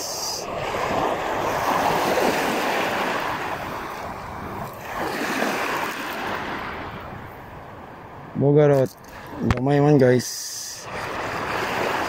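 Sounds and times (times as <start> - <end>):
wind on microphone: 0.0 - 9.8
lapping sea water: 0.0 - 12.0.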